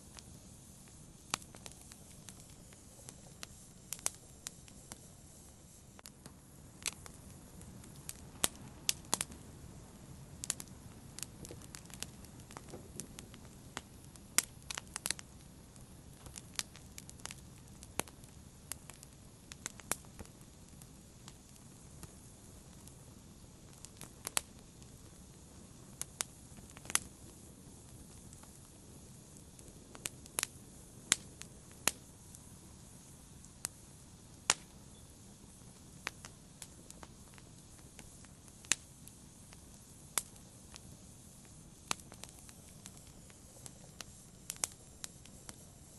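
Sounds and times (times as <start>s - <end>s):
fire crackling and popping: 0.0s - 45.9s
soft low hiss: 0.0s - 45.9s.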